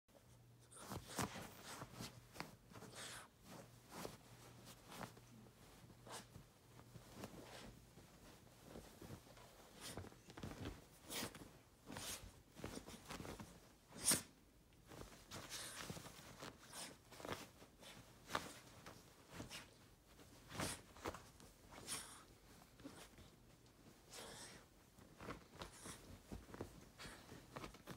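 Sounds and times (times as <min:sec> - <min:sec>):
bedding rustling and scuffing: 0:00.2 - 0:27.9.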